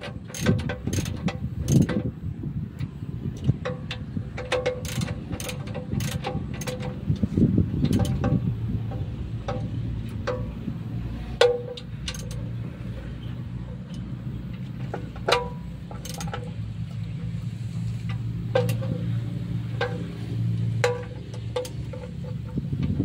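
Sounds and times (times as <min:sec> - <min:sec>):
wrench clinking on metal nuts: 0:00.0 - 0:02.1, 0:02.7 - 0:10.6, 0:11.4 - 0:17.4, 0:18.1 - 0:22.9.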